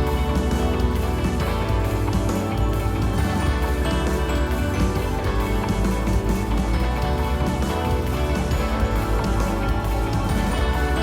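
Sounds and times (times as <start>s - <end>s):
background music with strong bass: 0.0s - 11.0s.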